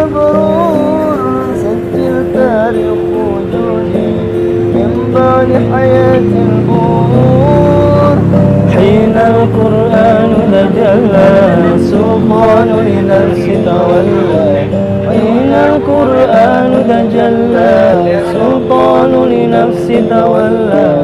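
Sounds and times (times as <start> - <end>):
devotional song with ornamented melody: 0.0 - 21.0
held accompanying notes: 0.0 - 21.0.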